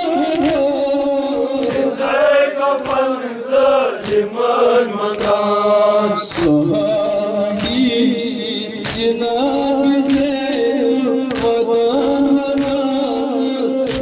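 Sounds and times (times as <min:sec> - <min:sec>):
men chanting a lament: 0:00.0 - 0:14.0
hands slapping chests: 0:00.3 - 0:05.6, 0:06.2 - 0:10.6, 0:11.2 - 0:14.0.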